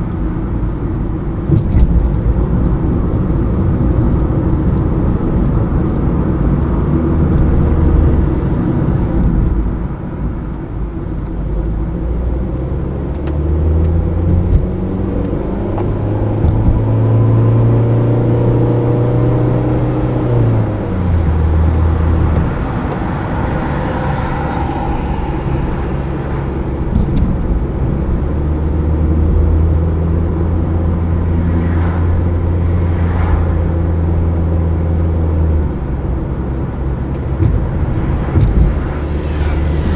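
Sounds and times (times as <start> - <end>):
car engine: 0.0 - 39.9.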